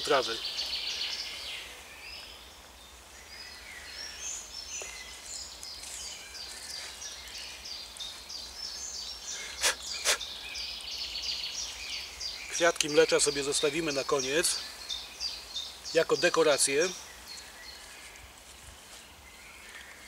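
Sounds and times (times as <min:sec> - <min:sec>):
woodland birds singing: 0:00.0 - 0:20.0.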